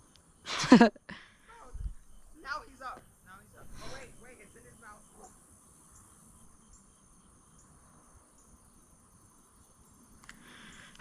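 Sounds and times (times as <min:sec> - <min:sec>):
faint insect chirps: 0:00.0 - 0:11.0.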